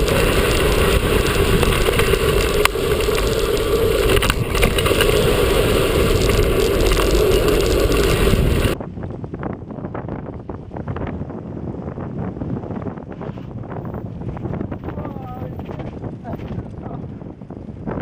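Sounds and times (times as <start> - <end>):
bike tyres rattling over dirt: 0.0 - 18.0
wind buffeting microphone: 0.0 - 18.0.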